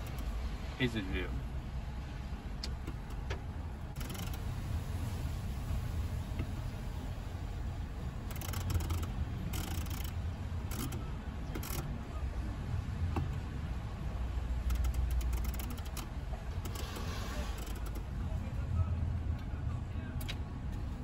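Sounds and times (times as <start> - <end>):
low rumble inside car cabin: 0.0 - 21.0.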